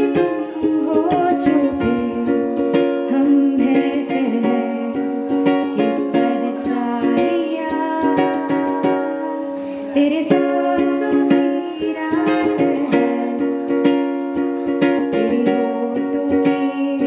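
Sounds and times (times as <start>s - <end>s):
ukulele strumming: 0.0s - 17.0s
woman singing into a microphone: 0.0s - 17.0s.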